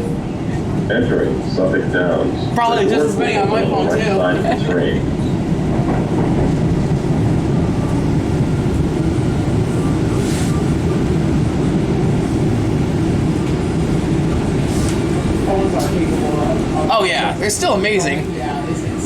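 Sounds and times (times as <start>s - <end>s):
subway car rumbling on track: 0.0s - 19.0s.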